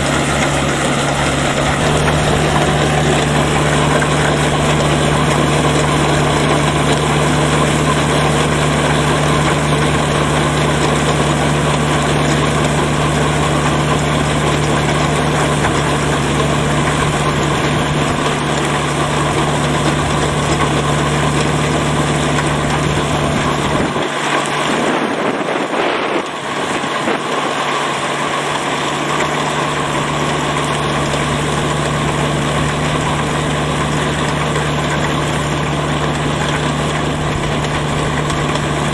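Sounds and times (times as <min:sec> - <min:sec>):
spinning drum churning mud: 0:00.0 - 0:38.9
tractor diesel engine running: 0:00.0 - 0:38.9.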